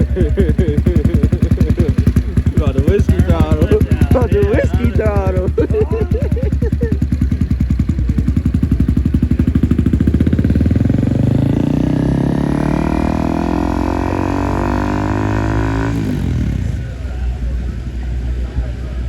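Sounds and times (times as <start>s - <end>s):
motorcycle engine accelerating: 0.0s - 18.3s.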